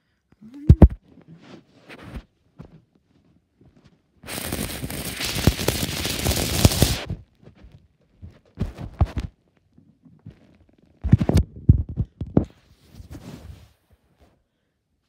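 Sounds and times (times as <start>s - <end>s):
microphone handling rustle: 0.6s - 9.4s, 10.1s - 14.4s.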